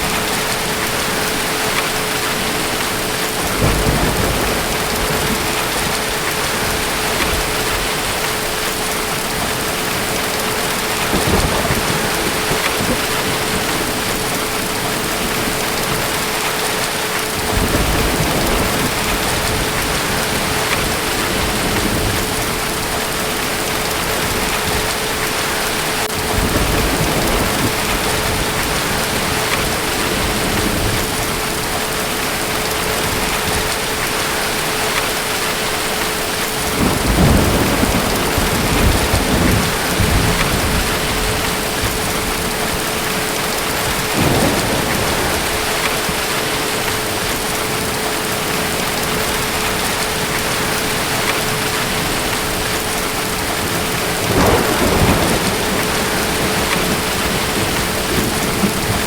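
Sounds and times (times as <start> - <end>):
distant thunder rumbling: 0.0 - 34.9, 36.2 - 59.0
heavy rain hissing: 0.0 - 59.0.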